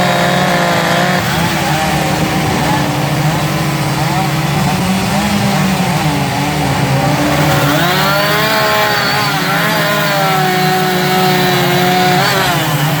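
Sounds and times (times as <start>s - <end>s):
chainsaws running: 0.0s - 13.0s.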